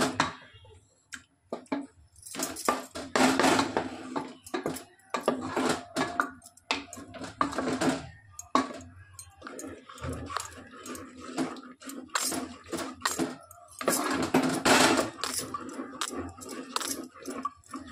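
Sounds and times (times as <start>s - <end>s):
wooden spoon scraping metal pot: 2.4s - 17.9s.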